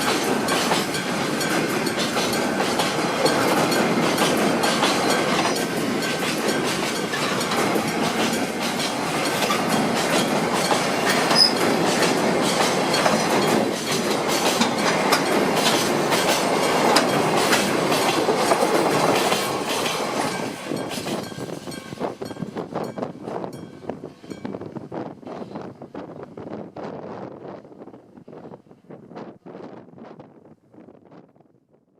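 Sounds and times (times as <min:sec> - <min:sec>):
freight train wheels clacking: 0:00.0 - 0:25.7.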